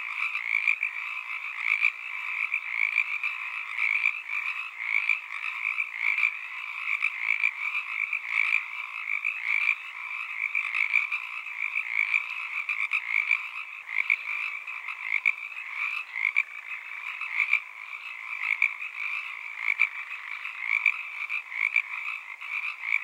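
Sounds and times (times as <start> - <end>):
night chorus of calling animals: 0.0 - 23.0.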